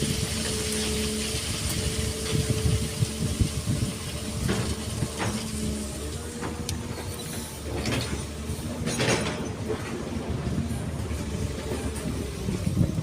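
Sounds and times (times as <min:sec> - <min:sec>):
excavator engine rumbling: 0:00.0 - 0:13.0.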